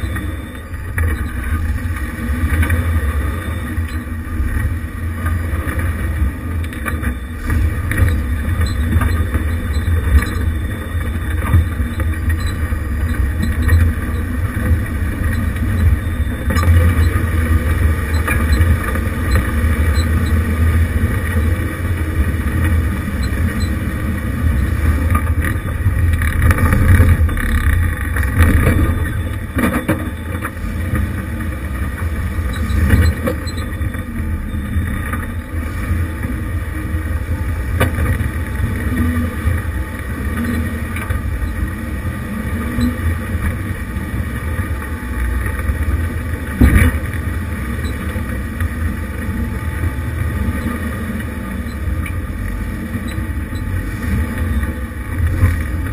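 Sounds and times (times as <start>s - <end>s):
engine low rumble: 0.0s - 55.9s.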